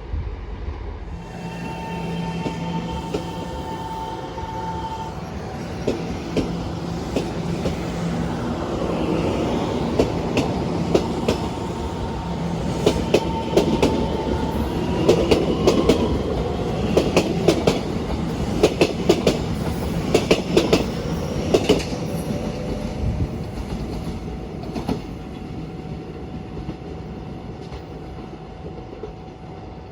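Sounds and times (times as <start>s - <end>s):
train rumbling on rails: 0.0s - 29.9s.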